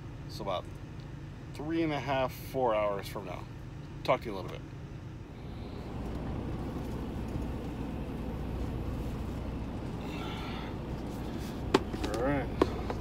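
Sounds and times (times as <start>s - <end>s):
diesel engine low rumble: 0.0s - 13.0s.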